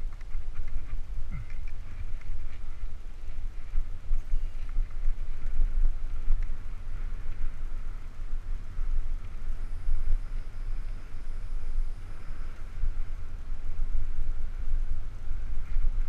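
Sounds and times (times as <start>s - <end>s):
bike tyres on dirt trail: 0.0s - 16.0s
wind buffeting microphone: 0.0s - 16.0s.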